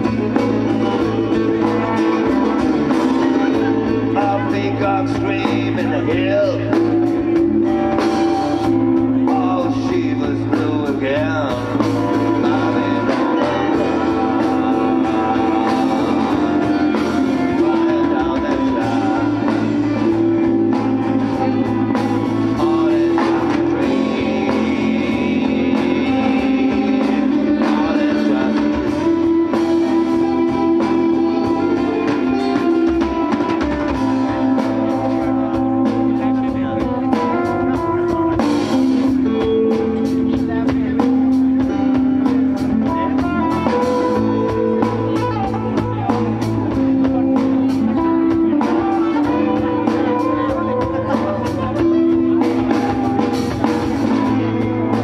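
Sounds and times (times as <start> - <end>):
electric bass: 0.0 - 55.0
electric guitar: 0.0 - 55.0
man singing: 0.0 - 55.0.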